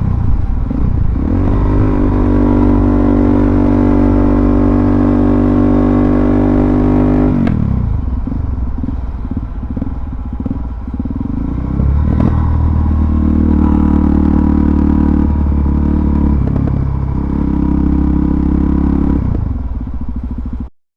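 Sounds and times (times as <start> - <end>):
motorcycle engine running: 0.0 - 20.7.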